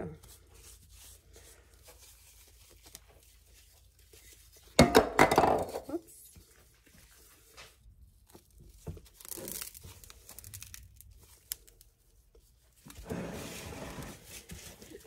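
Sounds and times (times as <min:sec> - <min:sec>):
powder crunching and rustling: 0:00.1 - 0:04.8, 0:06.0 - 0:15.0.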